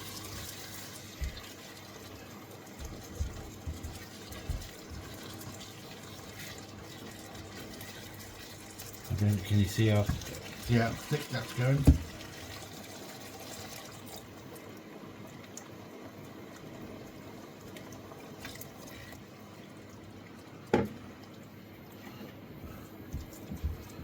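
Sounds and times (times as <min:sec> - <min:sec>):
stock simmering in wok: 0:00.0 - 0:24.0.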